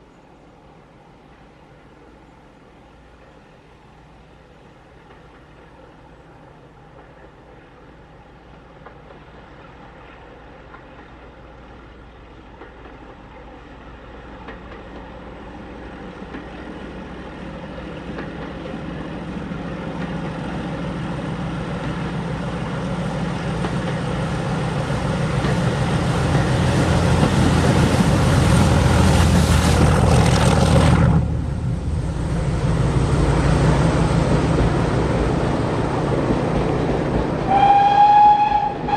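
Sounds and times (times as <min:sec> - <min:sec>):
train engine approaching: 0:00.0 - 0:38.9.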